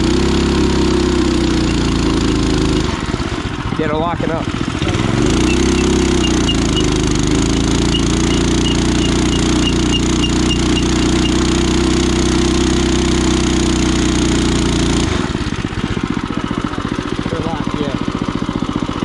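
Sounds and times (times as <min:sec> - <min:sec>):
minibike engine running: 0:00.0 - 0:19.0.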